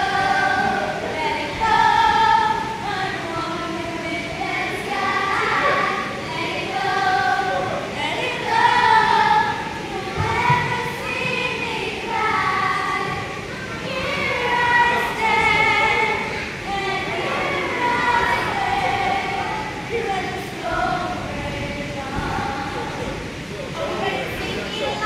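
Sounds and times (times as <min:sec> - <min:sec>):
children and women singing: 0:00.0 - 0:25.0.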